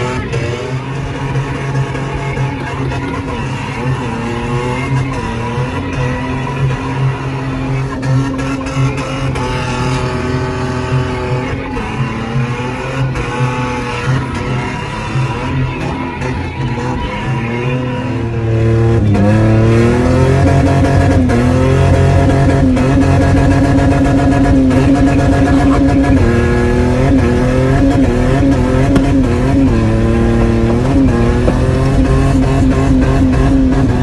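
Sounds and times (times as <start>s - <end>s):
car engine revving hard: 0.0s - 34.0s.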